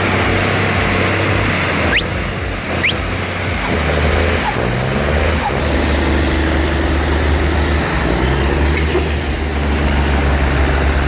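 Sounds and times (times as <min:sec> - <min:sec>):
heavy machine engine running: 0:00.0 - 0:11.0.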